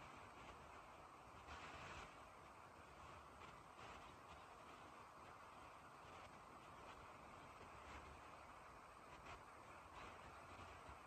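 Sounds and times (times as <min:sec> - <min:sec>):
light rain falling on trees: 0:00.0 - 0:11.0.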